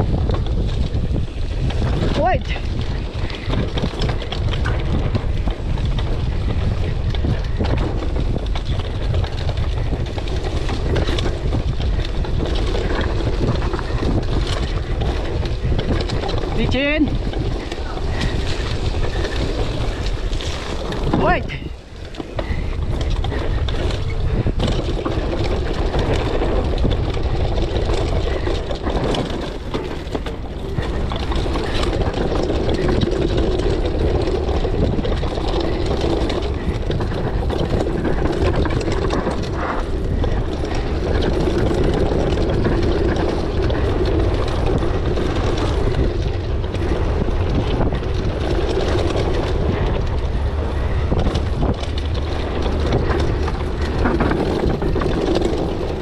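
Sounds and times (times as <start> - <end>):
bike tyres and frame rattling: 0.0 - 56.0
wind rushing on microphone: 0.0 - 56.0.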